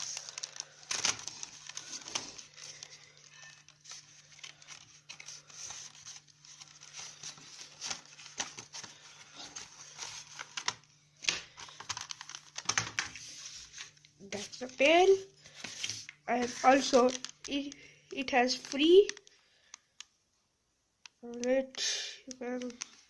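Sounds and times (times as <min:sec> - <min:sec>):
packaging crinkling and tearing: 0:00.0 - 0:19.8.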